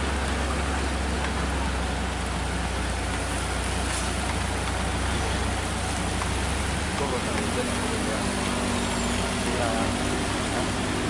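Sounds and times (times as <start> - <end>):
rain falling on wet road: 0.0 - 11.0
traffic engine rumble: 0.0 - 11.0.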